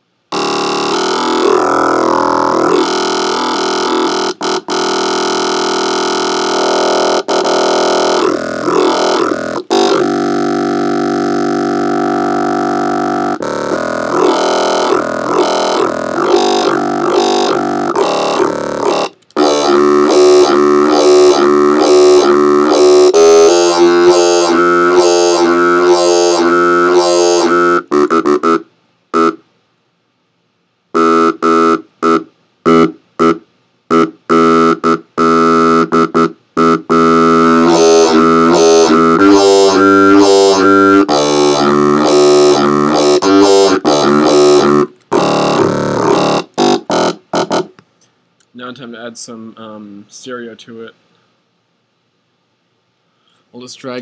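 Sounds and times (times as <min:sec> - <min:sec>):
synthesized bass notes: 0:00.0 - 0:29.5, 0:31.0 - 0:47.8.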